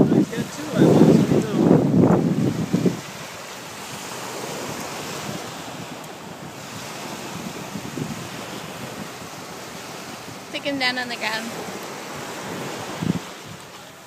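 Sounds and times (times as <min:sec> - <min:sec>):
surf washing up sandy shore: 0:00.0 - 0:14.0
wind on microphone: 0:00.0 - 0:14.0.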